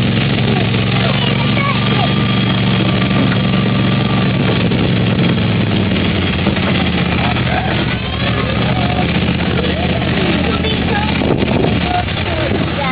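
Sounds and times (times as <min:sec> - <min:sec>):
miniature train engine running: 0:00.0 - 0:12.9.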